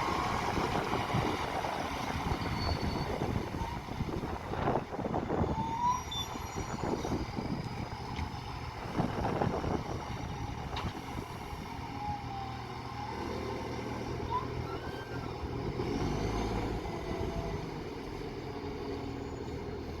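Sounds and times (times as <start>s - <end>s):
garbage truck diesel engine: 0.0s - 20.0s.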